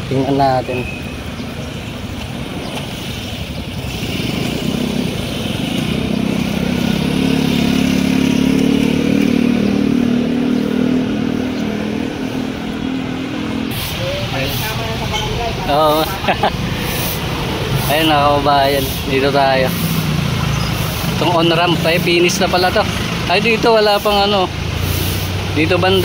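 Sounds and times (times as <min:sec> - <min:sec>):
road traffic: 0:00.0 - 0:26.0
vehicle engine drone passing: 0:01.2 - 0:26.0.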